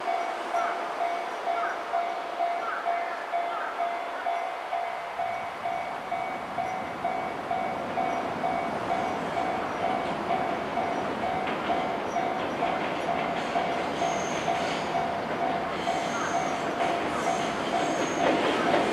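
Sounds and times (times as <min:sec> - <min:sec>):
level crossing warning bell ringing: 0:00.0 - 0:18.9
electric train running: 0:03.5 - 0:18.9.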